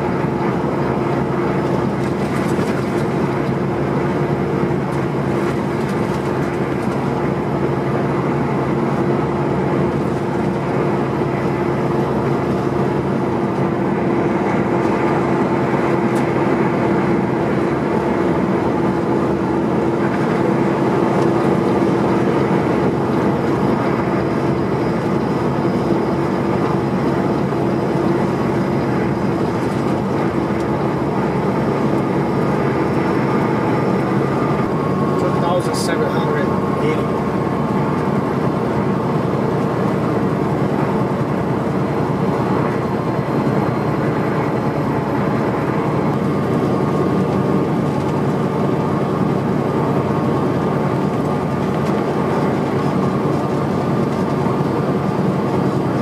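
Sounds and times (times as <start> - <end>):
diesel engine drone: 0.0 - 56.0
tyre and road noise: 0.0 - 56.0.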